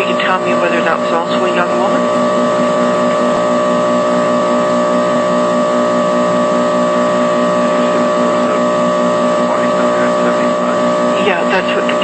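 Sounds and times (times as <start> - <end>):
buzzing hum and hiss: 0.0 - 12.0
pulsing held tone: 0.0 - 12.0.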